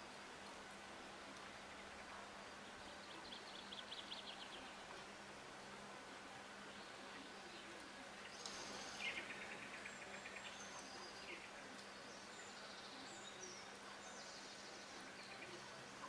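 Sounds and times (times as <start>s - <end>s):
faint steady hum: 0.0s - 16.0s
birdsong chirps and trills: 1.5s - 5.3s, 6.4s - 16.0s.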